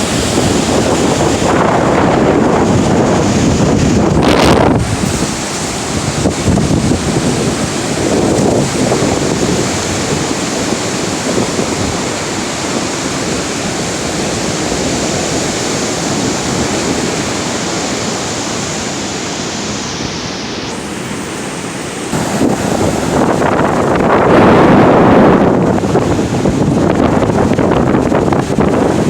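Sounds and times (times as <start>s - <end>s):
heavy surf rushing onto beach: 0.0s - 29.0s.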